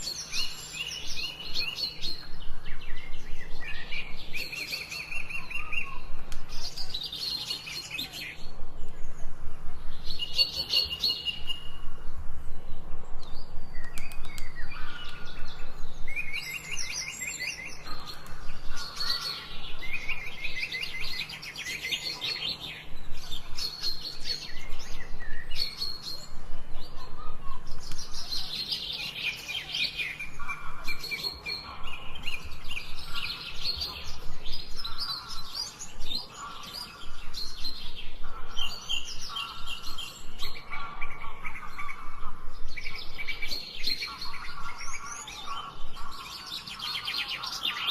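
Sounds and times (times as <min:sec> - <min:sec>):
soft bird calls: 0:00.0 - 0:47.9
songbirds singing trills: 0:00.0 - 0:47.9.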